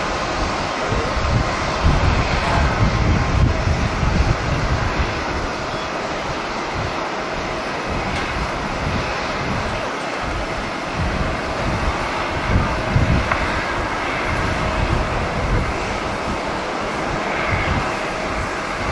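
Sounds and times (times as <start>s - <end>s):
turboprop engines running: 0.0s - 18.9s
wind buffeting microphone: 0.0s - 18.9s.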